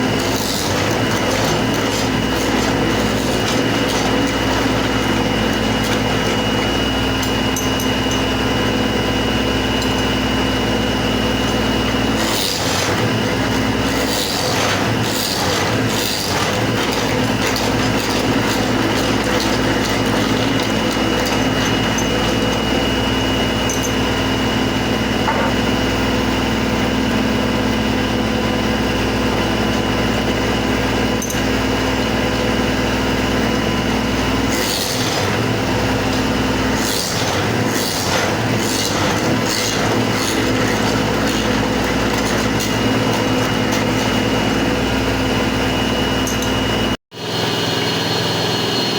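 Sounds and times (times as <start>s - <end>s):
woodworking machine motor whine: 0.0s - 48.9s.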